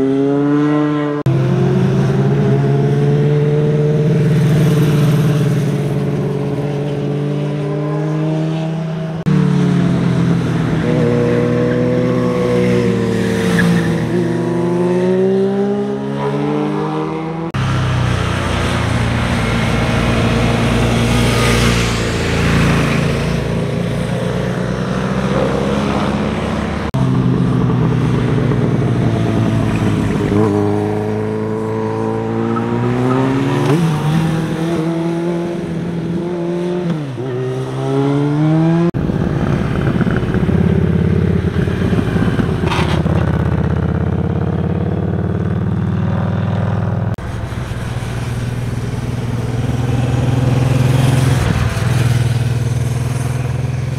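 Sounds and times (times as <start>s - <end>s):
motorcycle engines passing: 0.0s - 53.9s.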